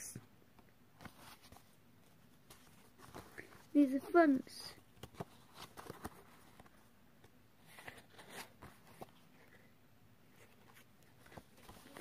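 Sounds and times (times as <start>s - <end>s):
paper cards rustling: 1.0s - 6.8s, 7.6s - 9.7s, 10.3s - 12.0s.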